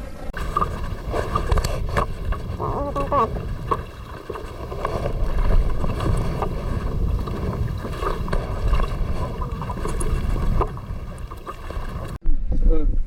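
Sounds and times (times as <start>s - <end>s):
wind buffeting microphone: 0.3s - 12.2s.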